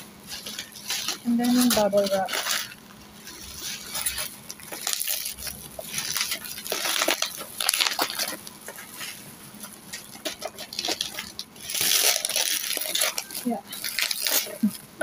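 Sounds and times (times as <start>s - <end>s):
bubble wrap rustling and crinkling: 0.0s - 15.0s.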